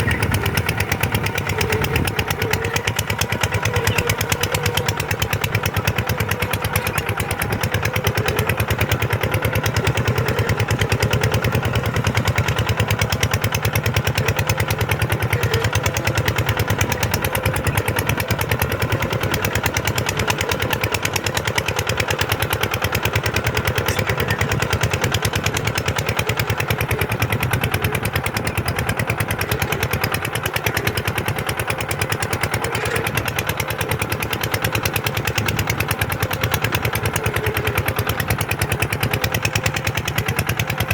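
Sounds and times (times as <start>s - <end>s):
tractor diesel engine chugging: 0.0s - 40.9s.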